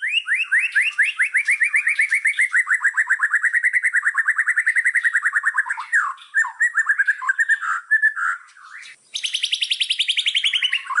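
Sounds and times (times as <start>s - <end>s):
small songbird singing: 0.0s - 11.0s.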